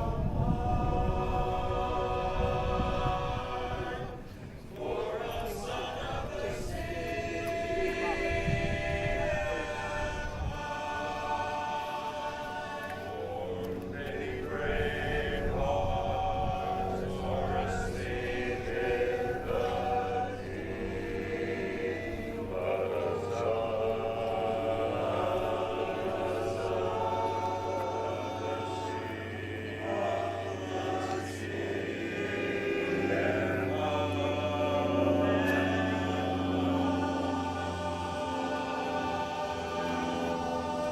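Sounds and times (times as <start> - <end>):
barbershop chorus singing a cappella: 0.0 - 40.9.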